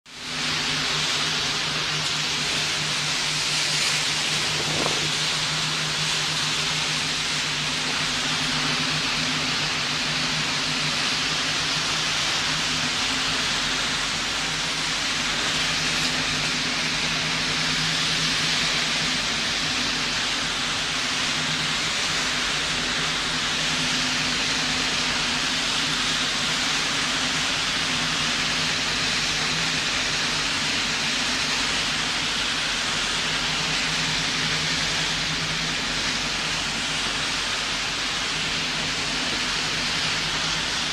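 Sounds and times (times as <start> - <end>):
low engine drone: 0.0 - 40.9
rushing water from wake: 0.1 - 40.9.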